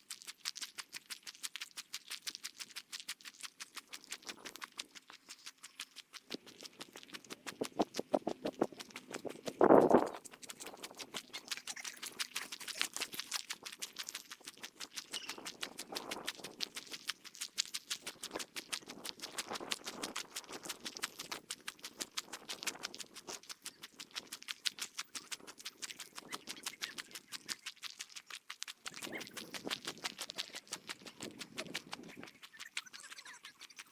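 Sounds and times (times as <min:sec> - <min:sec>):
rapid footsteps: 0:00.7 - 0:33.9.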